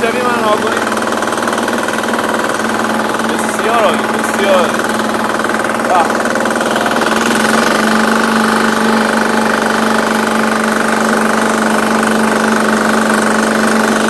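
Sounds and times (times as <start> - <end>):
garden tractor engine running: 0.0 - 14.0.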